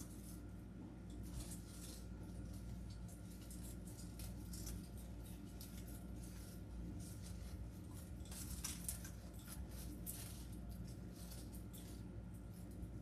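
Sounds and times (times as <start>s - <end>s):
low steady hum: 0.0s - 13.0s
rustling artificial flowers: 0.0s - 13.0s.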